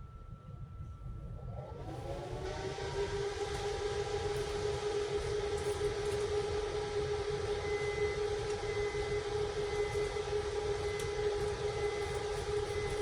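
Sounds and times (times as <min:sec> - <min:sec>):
electric train humming: 0:01.4 - 0:13.0.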